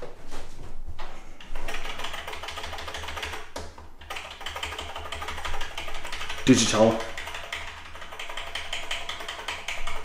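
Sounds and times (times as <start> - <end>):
keyboard keys clicking: 1.6 - 10.0.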